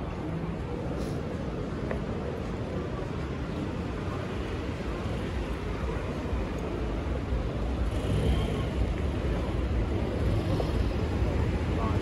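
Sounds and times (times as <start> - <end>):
city vehicle noise rumble: 0.0 - 12.0.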